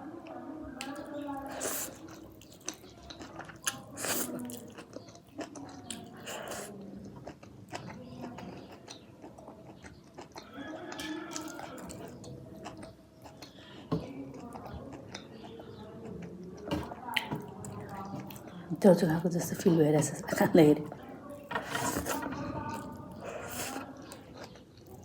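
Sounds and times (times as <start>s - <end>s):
person chewing food: 0.8s - 18.6s, 20.9s - 25.0s.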